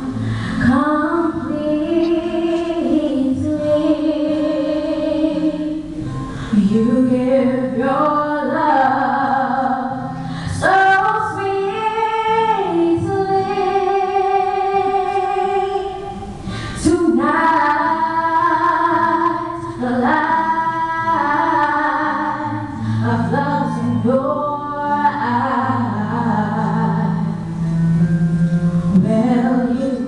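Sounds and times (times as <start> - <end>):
girl singing pop song: 0.0 - 27.6, 29.0 - 30.0
musical accompaniment: 0.0 - 30.0.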